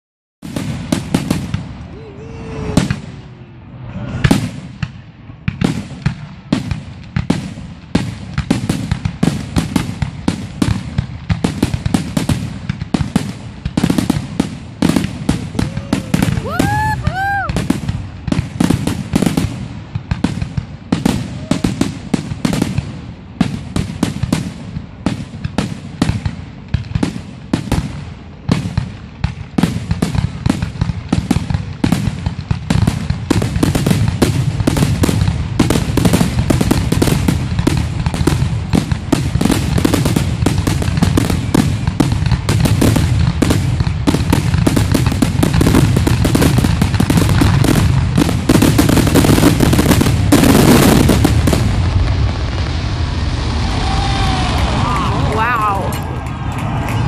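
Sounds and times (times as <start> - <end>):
fireworks bangs and crackles: 0.4 - 57.0.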